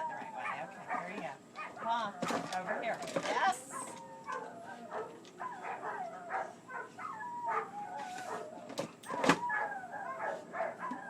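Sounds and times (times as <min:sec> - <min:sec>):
dog whining: 0:00.0 - 0:11.0.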